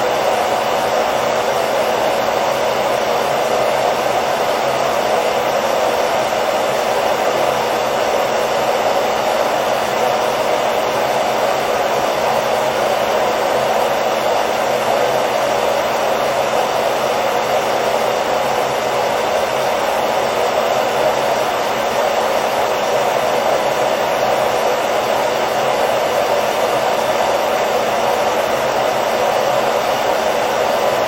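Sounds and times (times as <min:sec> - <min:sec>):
hair dryer blowing: 0:00.0 - 0:31.0.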